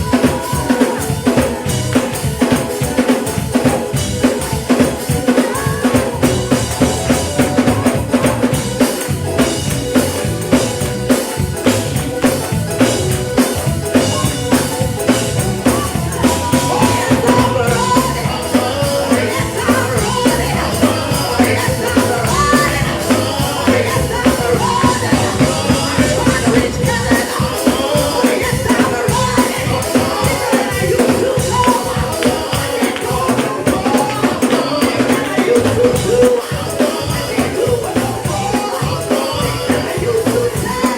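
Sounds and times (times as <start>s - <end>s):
drum kit fast beat: 0.0s - 40.9s
sustained instrumental tones: 0.0s - 40.9s.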